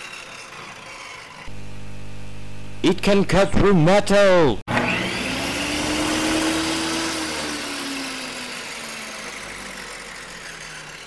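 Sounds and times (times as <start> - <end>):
small electric motor whining: 0.0 - 2.8, 4.7 - 11.0.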